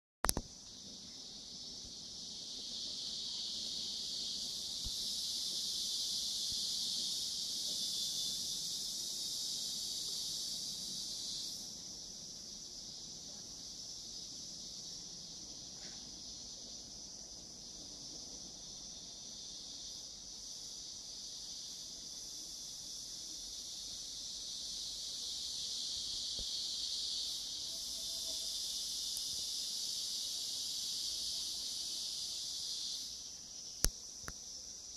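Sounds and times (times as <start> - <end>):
insects shrill drone: 0.9 - 34.9.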